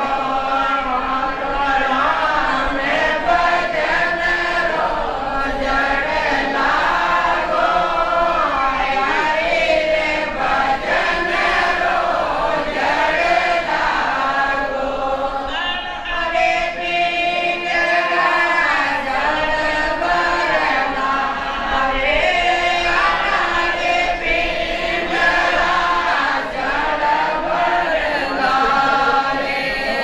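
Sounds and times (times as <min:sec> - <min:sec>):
group singing devotional chant: 0:00.0 - 0:30.0.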